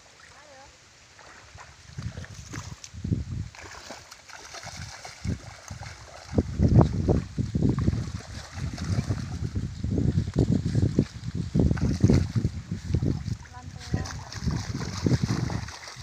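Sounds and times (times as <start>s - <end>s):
wind buffeting microphone: 1.4s - 16.0s.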